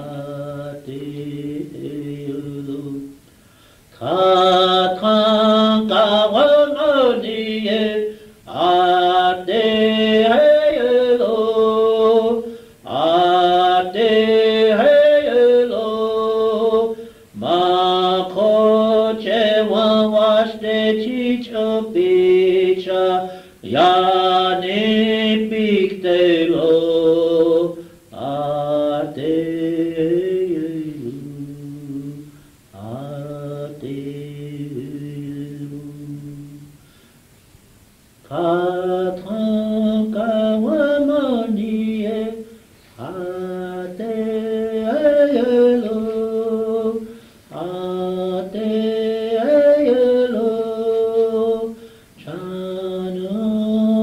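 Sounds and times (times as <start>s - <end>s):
person chanting unaccompanied: 0.0s - 3.3s, 3.9s - 36.8s, 38.2s - 54.0s.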